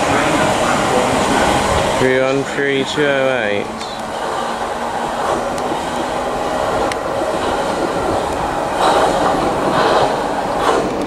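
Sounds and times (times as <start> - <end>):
electric train rail noise: 0.0 - 11.0.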